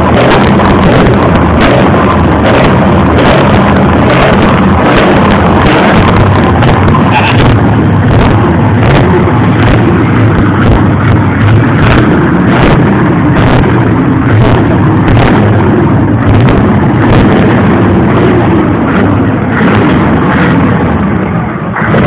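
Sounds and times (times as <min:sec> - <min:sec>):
sharp exhaust cracks: 0:00.0 - 0:22.0
truck engine running loud: 0:00.0 - 0:22.0.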